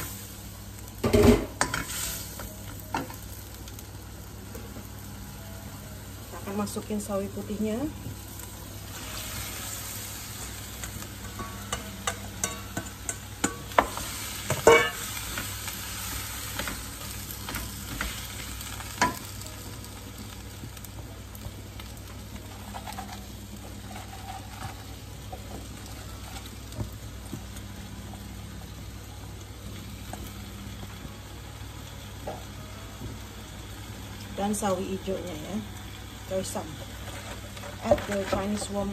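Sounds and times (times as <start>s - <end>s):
cabbage sizzling in a wok: 0.0s - 38.9s.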